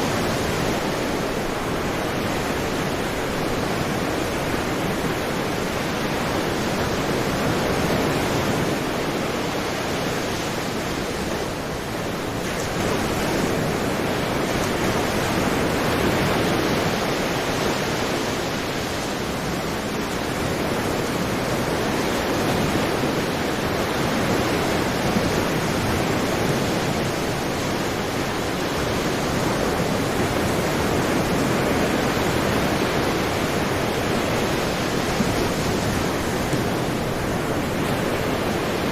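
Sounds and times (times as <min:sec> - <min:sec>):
sea surf washing: 0:00.0 - 0:38.9.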